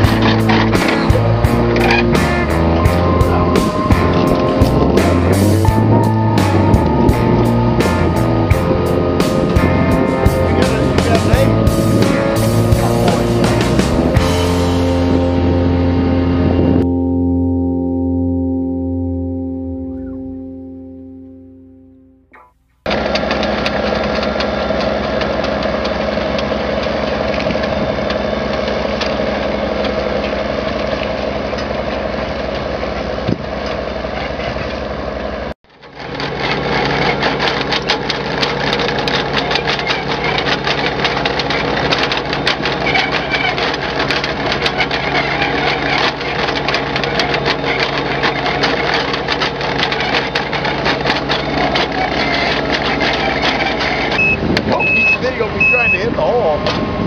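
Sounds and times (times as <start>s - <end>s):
diesel truck engines running: 0.0s - 57.0s.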